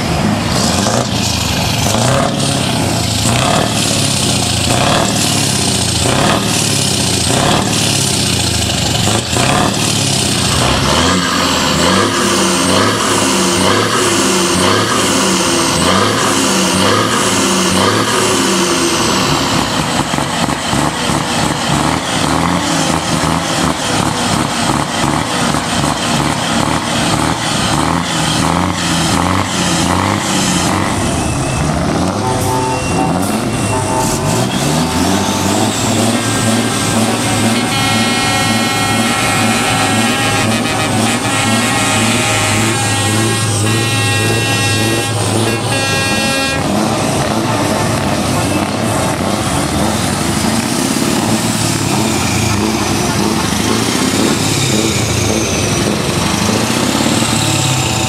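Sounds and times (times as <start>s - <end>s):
diesel truck engines revving: 0.0s - 58.0s.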